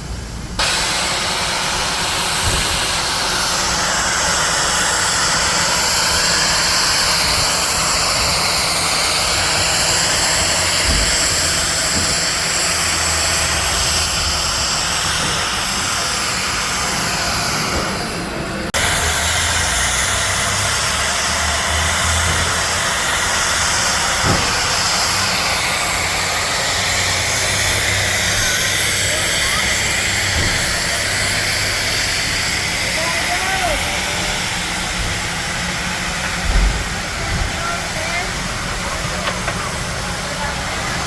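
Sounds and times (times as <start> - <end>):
steam locomotive hissing: 0.0 - 41.0.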